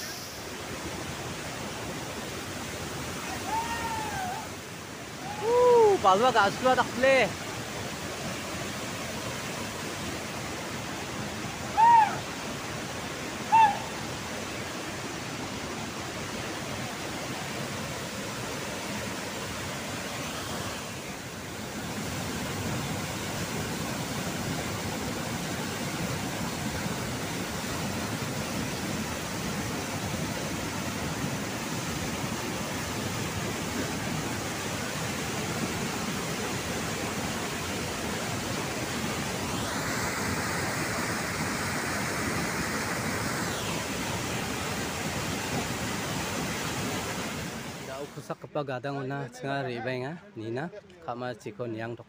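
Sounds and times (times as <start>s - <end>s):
water crashing over dam weir: 0.0s - 48.3s.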